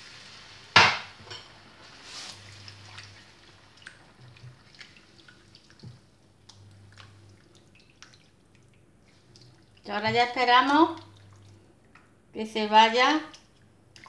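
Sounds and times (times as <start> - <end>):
faint low hum: 2.4 - 14.0.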